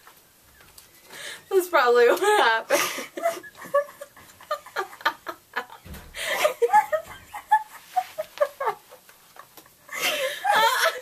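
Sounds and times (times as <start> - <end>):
women laughing: 2.0 - 11.0.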